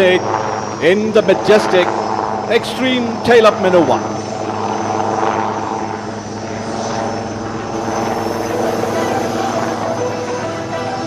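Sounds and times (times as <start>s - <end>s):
helicopter rotor and engine noise: 0.0s - 11.0s.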